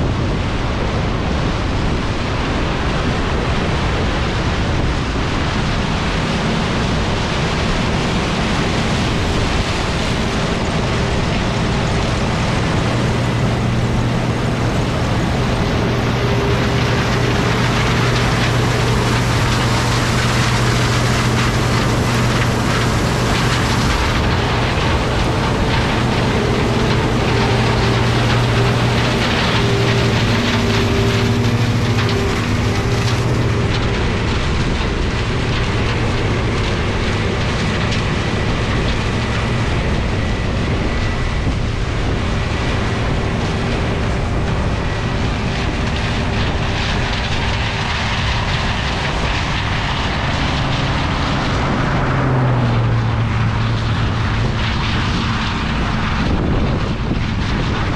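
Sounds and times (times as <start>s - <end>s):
combine diesel engine hum: 0.0s - 57.9s
constant rushing noise: 0.0s - 57.9s.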